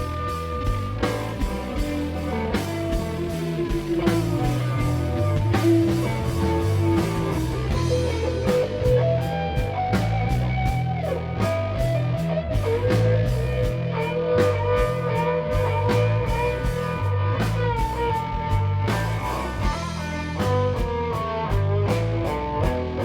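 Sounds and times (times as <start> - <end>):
bass guitar: 0.0 - 23.0
drums with steady beat: 0.0 - 23.0
electric guitar bending notes: 0.0 - 23.0.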